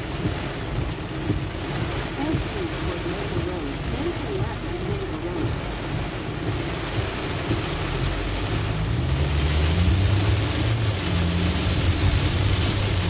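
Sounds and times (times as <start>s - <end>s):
engine and tyre drone: 0.0s - 13.0s
heavy rain on car roof: 0.0s - 13.0s.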